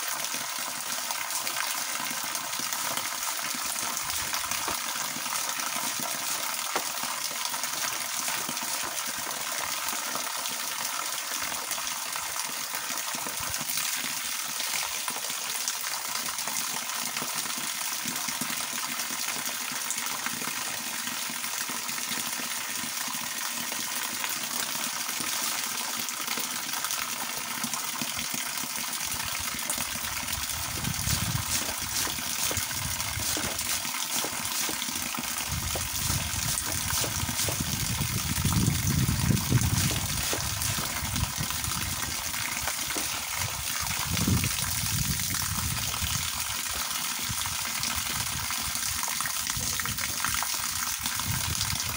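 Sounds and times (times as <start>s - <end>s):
hose water splashing on person: 0.0s - 51.9s.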